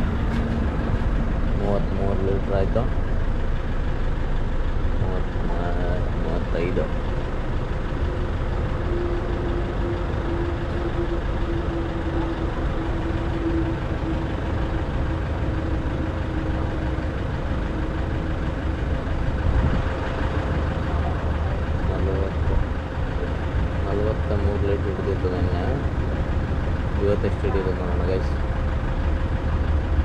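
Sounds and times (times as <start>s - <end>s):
thin steady whine: 0.0s - 30.0s
vehicle engine idling: 0.0s - 30.0s.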